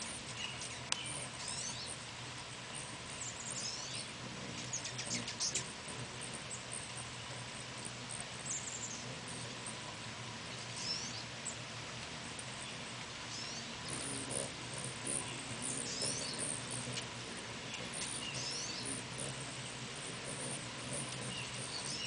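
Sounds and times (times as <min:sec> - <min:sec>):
hummingbirds chittering: 0:00.0 - 0:22.0
steady background hiss: 0:00.0 - 0:22.0.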